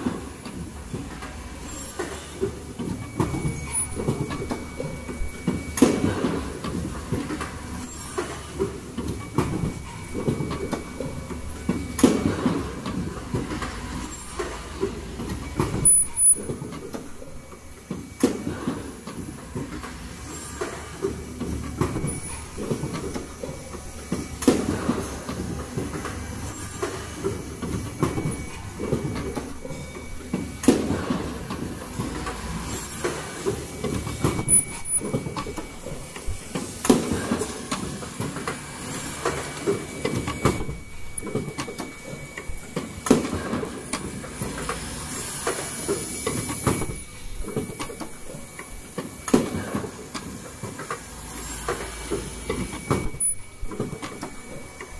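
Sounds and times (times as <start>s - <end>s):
loud machine clack: 0.0s - 54.9s
mask machine clattering: 0.0s - 54.9s.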